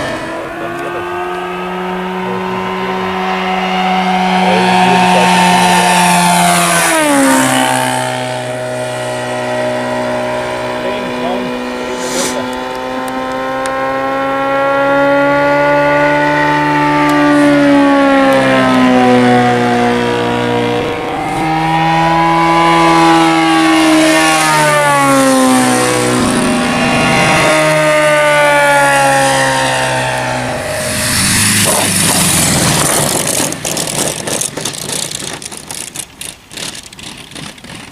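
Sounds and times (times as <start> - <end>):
model plane engine running: 0.0 - 37.9.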